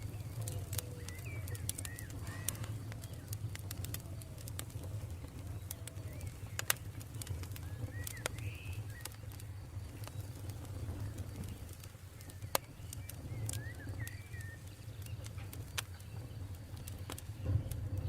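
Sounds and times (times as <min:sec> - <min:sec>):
birds chirping: 0:00.0 - 0:18.0
campfire crackling and popping: 0:00.0 - 0:18.0.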